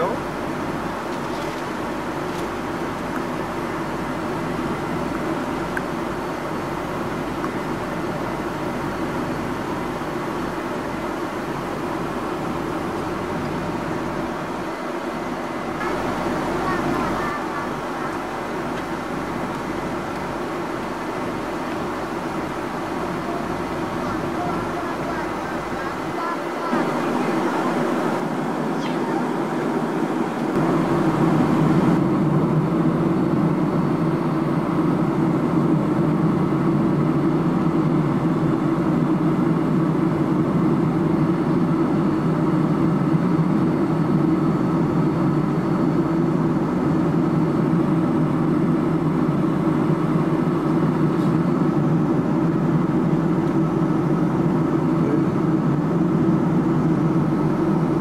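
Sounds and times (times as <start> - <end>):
airliner cabin engine drone: 0.0 - 58.0.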